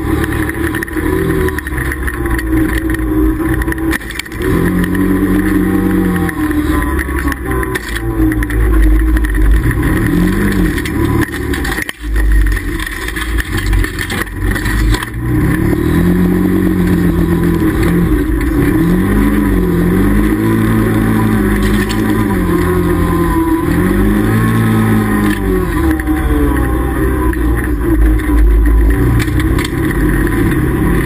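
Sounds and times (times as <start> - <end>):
engine revving: 0.0 - 31.0
low rumble: 0.0 - 31.0.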